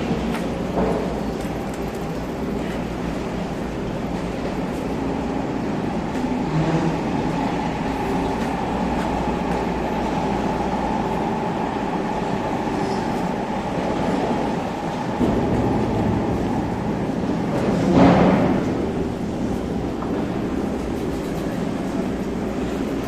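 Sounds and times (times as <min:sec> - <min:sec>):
electric train running past: 0:00.0 - 0:23.0.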